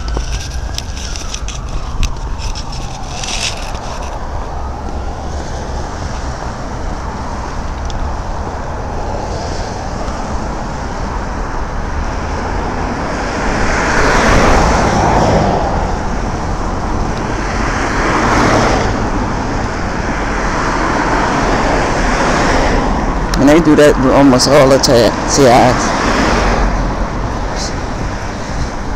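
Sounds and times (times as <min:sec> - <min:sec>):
cars passing: 0:00.0 - 0:28.9
road traffic noise: 0:00.0 - 0:28.9.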